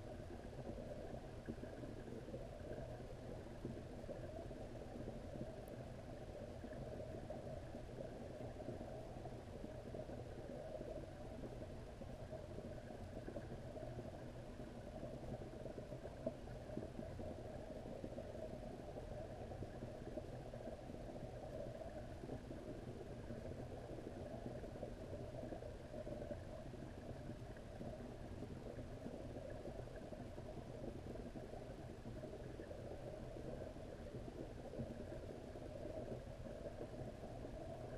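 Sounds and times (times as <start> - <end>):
underwater rumble and hiss: 0.0 - 37.9.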